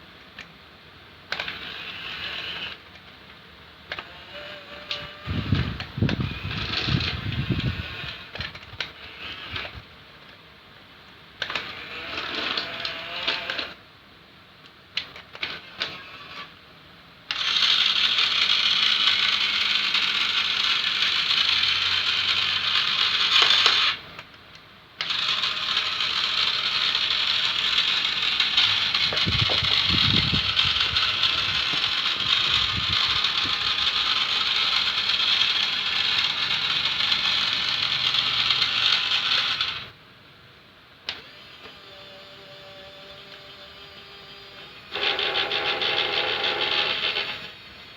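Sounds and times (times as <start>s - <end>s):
model excavator motors whirring: 1.2s - 9.9s, 11.4s - 13.8s, 15.0s - 16.6s, 17.3s - 40.0s, 41.0s - 47.9s.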